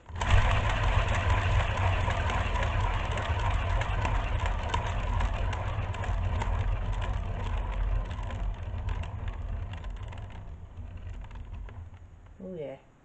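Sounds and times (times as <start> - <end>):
turntable bearing rumbling: 0.0 - 12.6.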